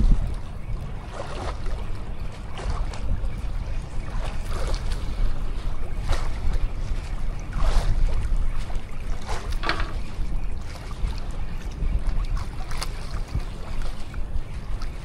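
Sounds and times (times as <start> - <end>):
water splashes: 0.0 - 15.0
wind buffeting microphone: 0.0 - 15.0.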